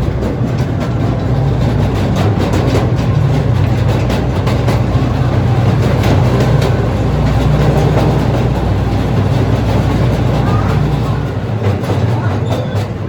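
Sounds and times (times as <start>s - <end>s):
ride-on train rolling on track: 0.0s - 13.0s.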